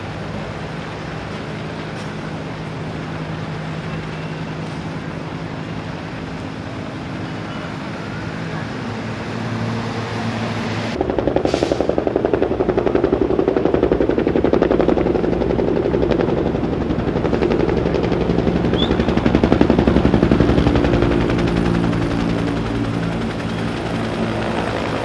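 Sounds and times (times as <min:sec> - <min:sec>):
helicopter rotor chopping: 0:00.0 - 0:25.0.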